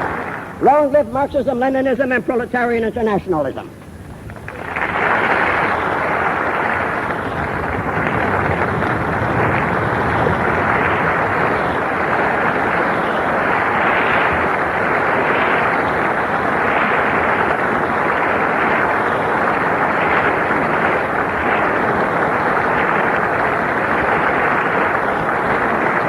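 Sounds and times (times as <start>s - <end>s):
audience applauding over radio: 4.3s - 26.0s.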